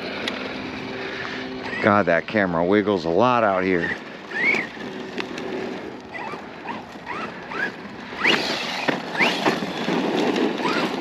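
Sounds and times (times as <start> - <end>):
electric motor rising whines: 0.0 - 11.0
tyres rushing on loose dirt: 0.0 - 11.0.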